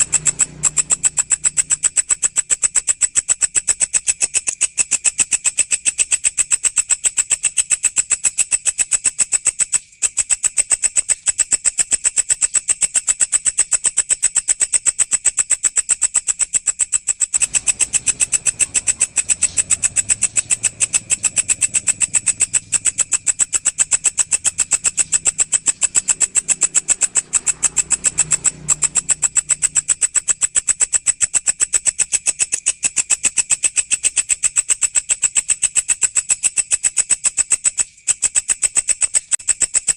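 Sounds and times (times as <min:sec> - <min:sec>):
insect stridulating shrilly: 0:00.0 - 0:39.8.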